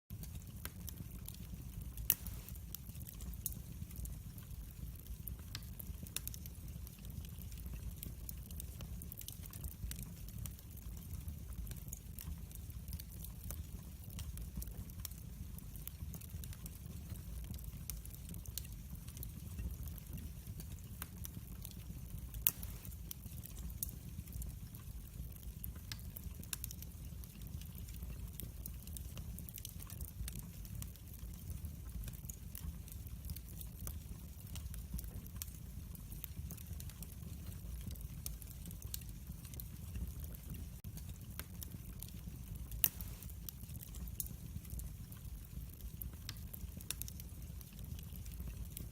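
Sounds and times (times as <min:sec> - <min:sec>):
low rumble of flames: 0:00.1 - 0:48.9
wood fire crackling: 0:00.1 - 0:48.9.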